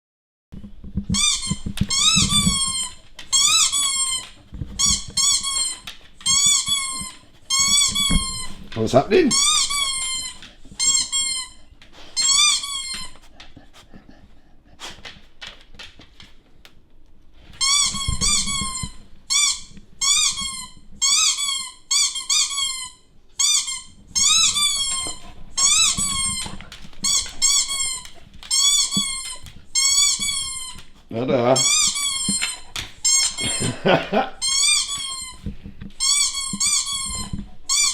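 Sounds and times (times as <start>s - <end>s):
squeaky toy squeaks: 1.1s - 13.2s, 17.6s - 30.9s, 31.6s - 33.7s, 34.4s - 37.9s.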